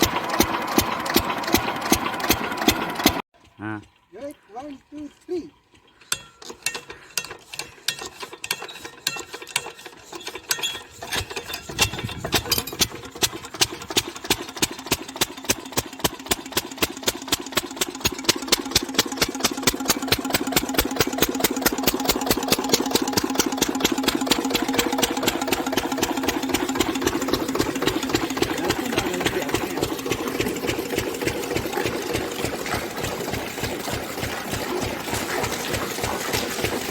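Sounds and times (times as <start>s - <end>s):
farm engine cranking and running: 0.0s - 36.9s.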